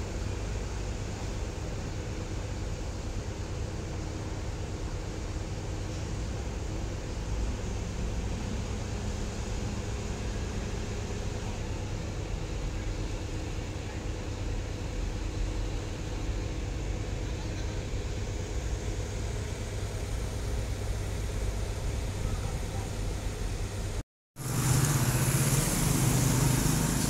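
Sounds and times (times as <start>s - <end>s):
heavy vehicle engine rumbling: 0.0s - 27.0s.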